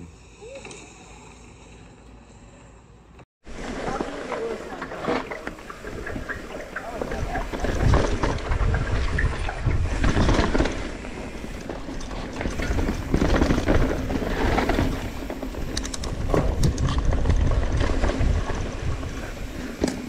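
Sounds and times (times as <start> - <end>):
bike tyres rumbling on rocky trail: 3.4 - 20.0
bike rattle: 3.5 - 20.0.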